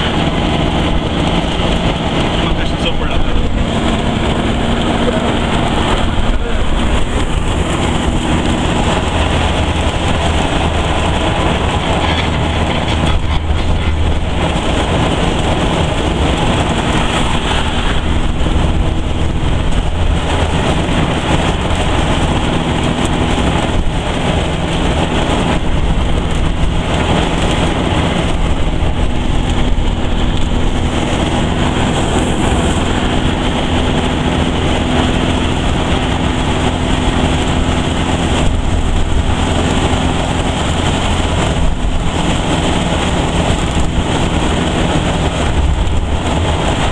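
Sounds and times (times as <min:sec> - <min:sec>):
buggy engine running: 0:00.0 - 0:46.9
road and wind noise: 0:00.0 - 0:46.9.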